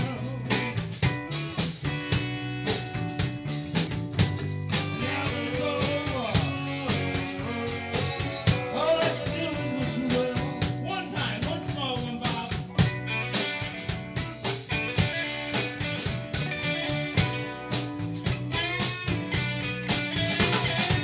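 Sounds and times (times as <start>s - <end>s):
drum kit beat: 0.0s - 21.0s
electric bass: 0.0s - 21.0s
electric guitars: 0.0s - 21.0s.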